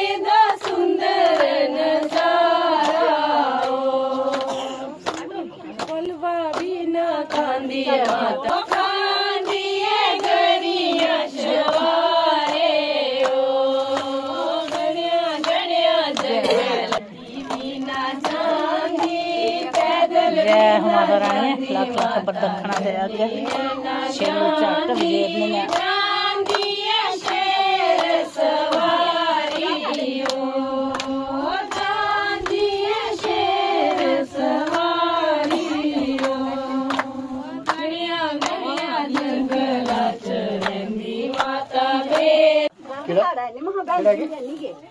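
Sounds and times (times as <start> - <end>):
rhythmic hand-clapping: 0.0 - 42.7
women singing devotional song: 0.0 - 44.9.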